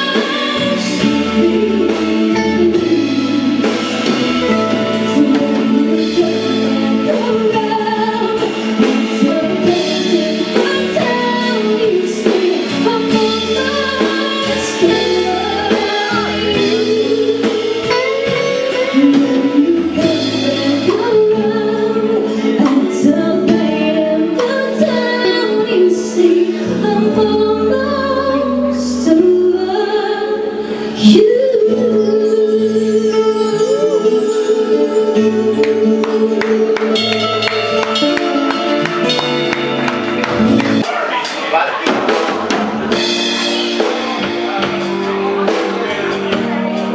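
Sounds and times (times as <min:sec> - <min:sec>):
woman singing: 0:00.0 - 0:39.4
electric guitar: 0:00.0 - 0:46.9
keyboard: 0:00.0 - 0:46.9.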